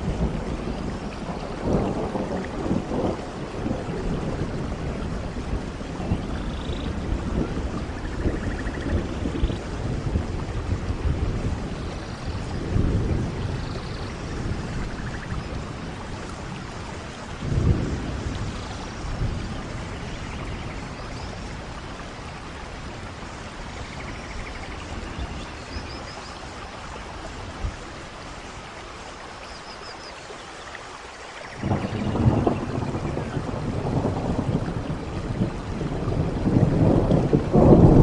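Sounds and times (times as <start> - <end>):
distant thunder rumbles: 0.0 - 28.2, 31.5 - 38.0
steady rain: 0.0 - 38.0.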